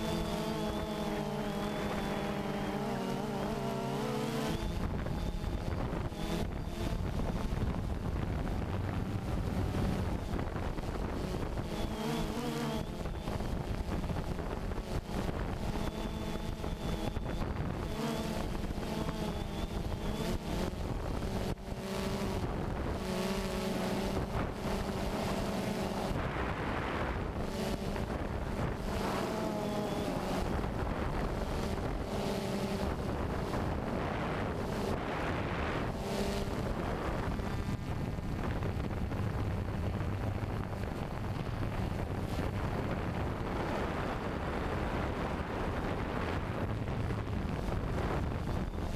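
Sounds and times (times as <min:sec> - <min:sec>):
drone motors buzzing: 0:00.0 - 0:48.9
wind buffeting microphone: 0:03.8 - 0:48.9.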